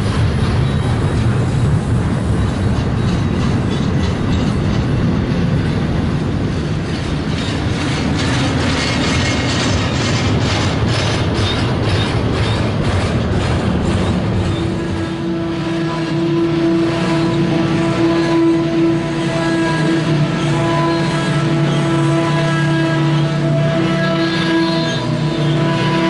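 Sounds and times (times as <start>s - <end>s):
train wheels rumbling on rails: 0.0s - 26.0s
wheels clacking over rail joints: 0.0s - 26.0s.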